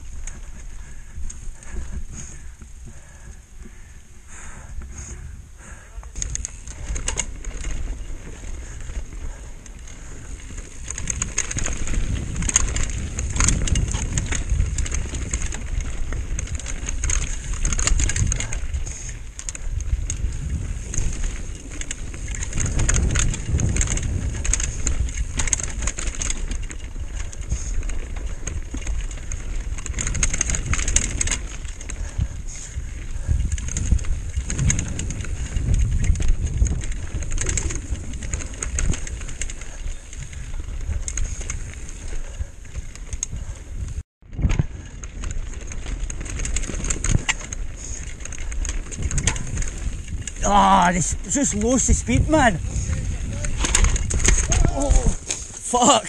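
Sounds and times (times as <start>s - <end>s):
bike chain and frame rattle: 0.0s - 56.0s
wind on microphone: 0.0s - 56.0s
tyres rumbling over gravel: 6.2s - 42.4s, 44.7s - 56.0s.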